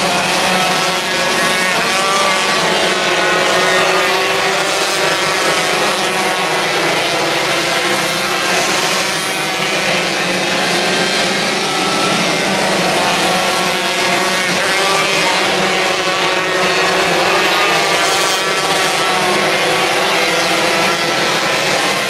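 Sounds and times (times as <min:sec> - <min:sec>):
racing car engines passing: 0:00.0 - 0:22.0.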